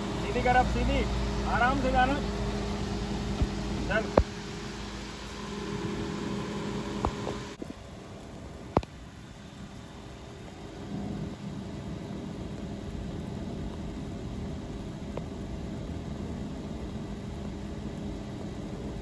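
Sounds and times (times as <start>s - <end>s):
car engine low hum: 0.0s - 19.0s
steady hiss: 0.0s - 19.0s.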